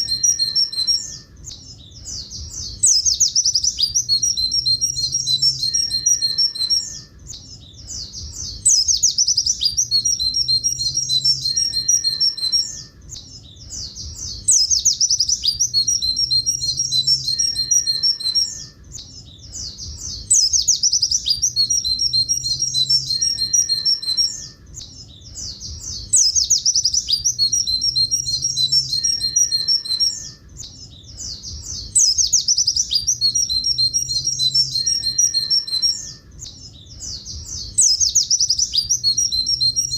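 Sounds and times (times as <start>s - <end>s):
bird singing twittering song: 0.0s - 39.9s.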